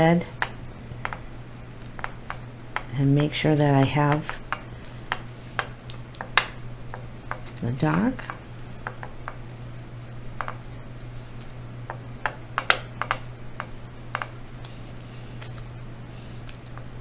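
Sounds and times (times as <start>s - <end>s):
steady low hum: 0.0s - 17.0s
fingers rustling clay: 0.1s - 17.0s.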